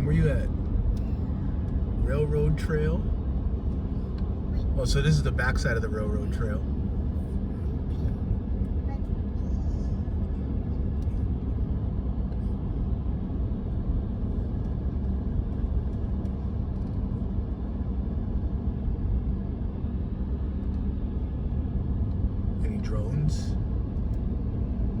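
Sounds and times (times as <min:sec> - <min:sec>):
road noise: 0:00.0 - 0:25.0
truck engine rumble: 0:00.0 - 0:25.0.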